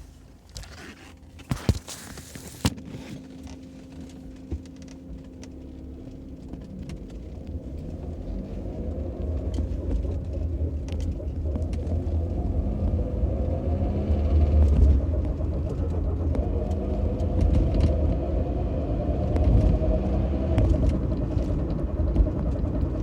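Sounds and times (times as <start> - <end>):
car drivetrain and road rumble: 0.0 - 23.0.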